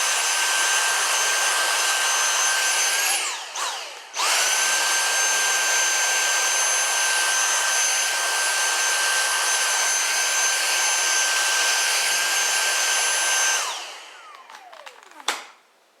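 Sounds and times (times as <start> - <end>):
vacuum cleaner running: 0.0 - 15.4.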